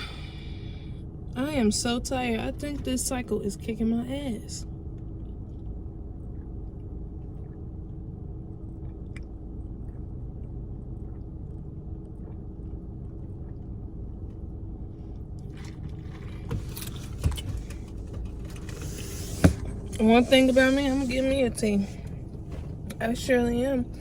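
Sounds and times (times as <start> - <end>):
faint steady hum: 0.0 - 24.0
low rumble inside a car: 0.0 - 24.0.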